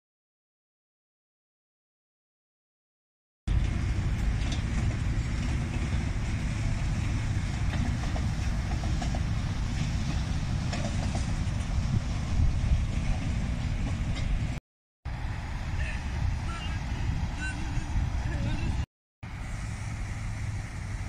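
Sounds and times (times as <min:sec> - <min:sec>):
train carriages rolling on track: 0:03.5 - 0:21.0.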